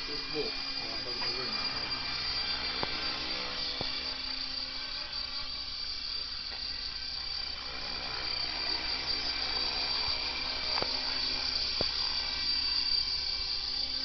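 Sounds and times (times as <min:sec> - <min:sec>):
toy helicopter rotor whine: 0:00.0 - 0:14.0.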